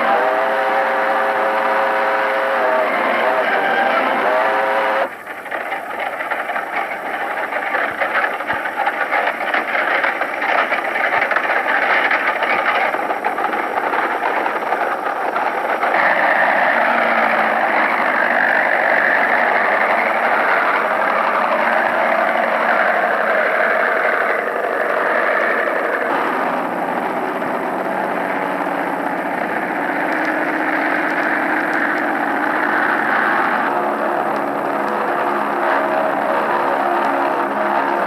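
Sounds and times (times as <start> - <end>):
train rushing: 0.0 - 38.0.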